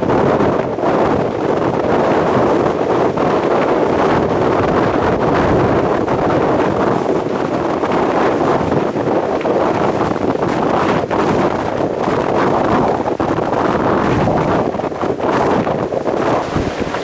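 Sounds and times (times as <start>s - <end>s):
blizzard wind on microphone: 0.0s - 17.0s.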